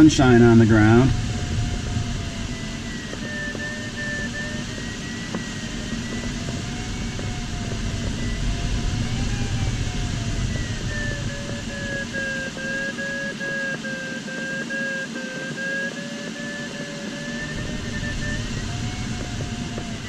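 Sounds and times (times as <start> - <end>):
airflow noise in cockpit: 0.0 - 20.0
electronic tone wandering in pitch: 0.0 - 20.0.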